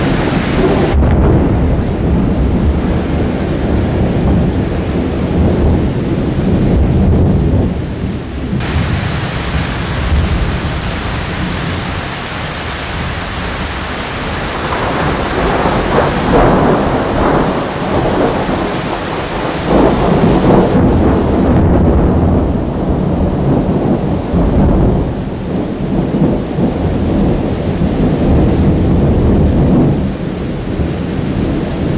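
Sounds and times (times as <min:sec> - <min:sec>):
heavy rain hiss: 0:00.0 - 0:06.6, 0:07.5 - 0:31.9
crackling thunderclap: 0:00.0 - 0:31.9
rolling thunder: 0:00.0 - 0:31.9.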